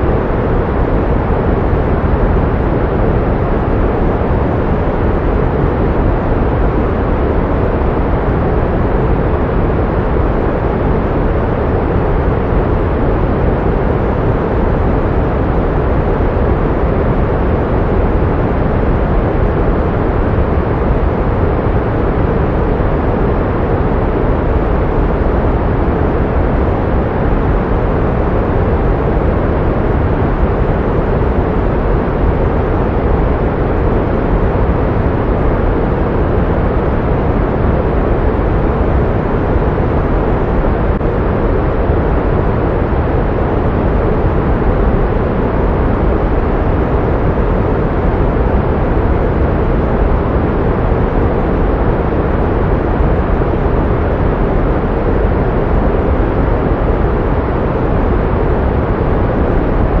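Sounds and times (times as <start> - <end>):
pink noise hiss: 0.0 - 60.0.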